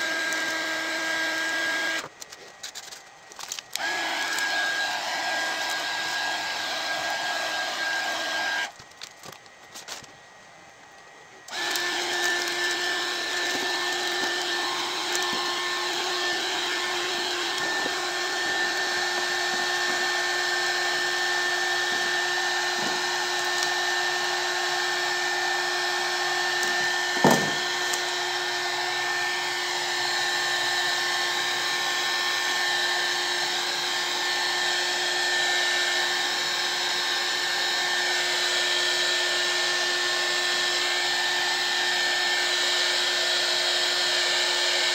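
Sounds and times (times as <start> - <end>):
hot air gun fan whining: 0.0 - 44.9.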